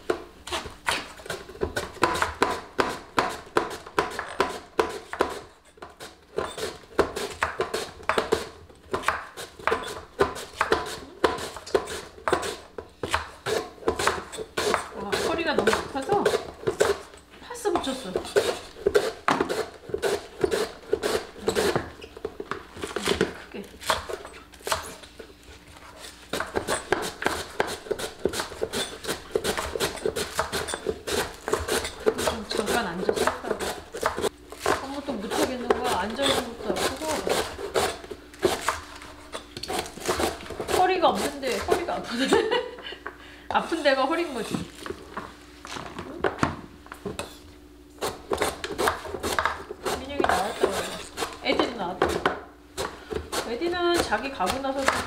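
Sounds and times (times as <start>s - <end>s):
knife chopping on wooden board: 0.0s - 17.1s, 17.7s - 25.0s, 25.9s - 41.9s, 48.0s - 55.0s.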